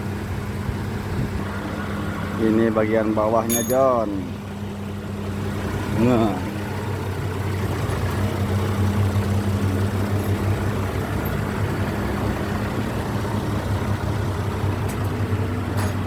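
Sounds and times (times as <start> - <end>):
large engine idling: 0.0 - 16.0.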